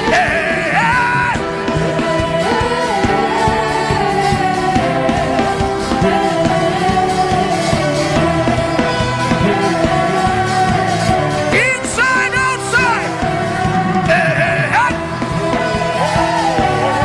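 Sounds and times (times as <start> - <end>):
keyboard chords: 0.0 - 17.0
person singing gospel: 0.0 - 17.0
steady beat: 0.0 - 17.0.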